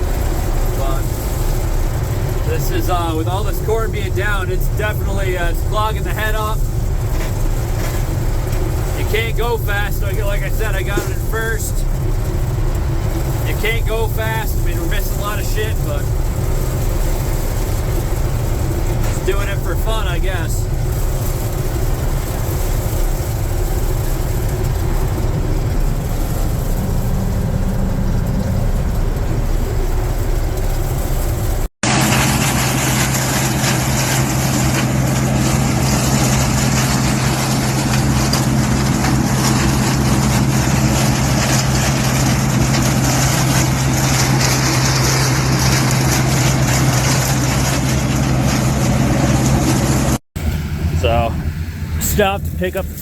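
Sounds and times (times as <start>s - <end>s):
combine harvester drone: 0.0s - 53.0s
steady low hum: 0.0s - 53.0s.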